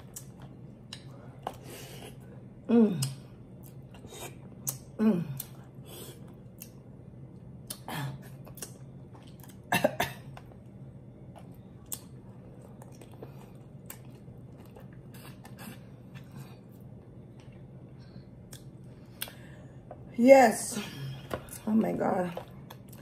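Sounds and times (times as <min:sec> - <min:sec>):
person chewing: 0:00.0 - 0:02.2, 0:03.0 - 0:09.7, 0:10.3 - 0:19.5, 0:22.3 - 0:23.0
low hum: 0:00.0 - 0:23.0.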